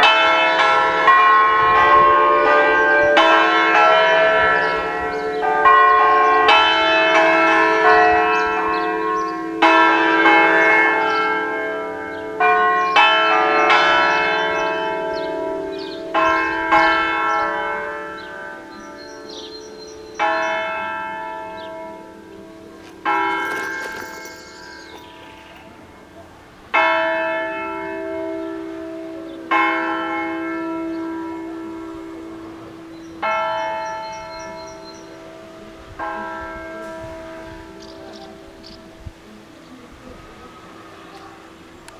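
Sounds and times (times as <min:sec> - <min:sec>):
church bells pealing: 0:00.0 - 0:41.9.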